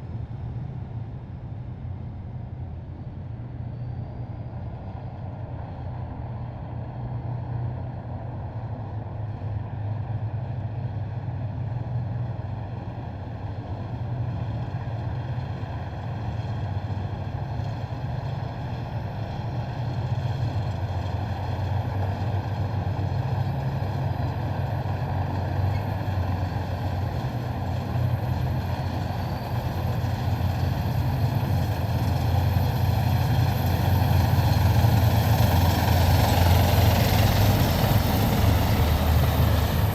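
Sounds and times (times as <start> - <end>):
heavy vehicle engines droning: 0.0 - 39.9.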